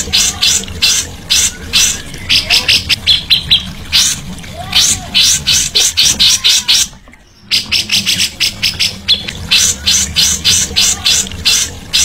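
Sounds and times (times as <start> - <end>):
low steady hum: 0.0 - 12.0
songbird harsh high calls: 0.0 - 12.0.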